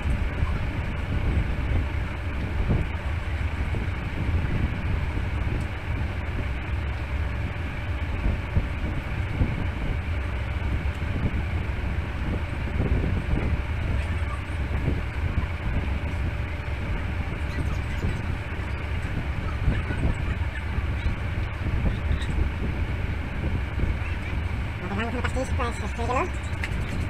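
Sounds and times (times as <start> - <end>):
low rumbling background noise: 0.0 - 27.0.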